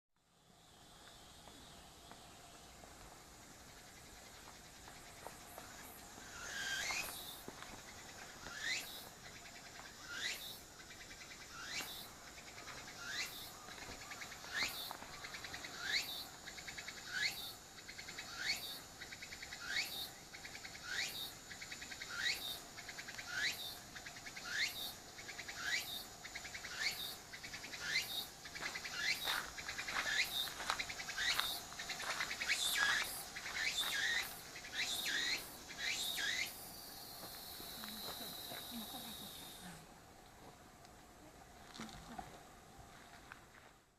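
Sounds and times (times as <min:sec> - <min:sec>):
cicada calling: 0:00.4 - 0:40.0.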